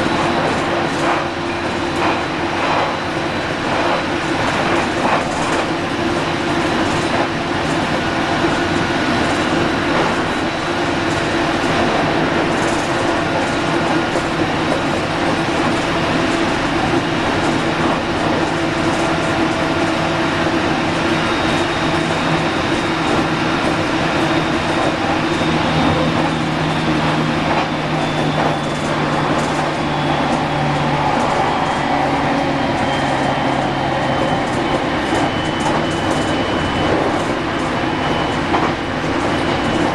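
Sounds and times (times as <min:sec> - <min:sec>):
train rolling rumble: 0:00.0 - 0:39.9.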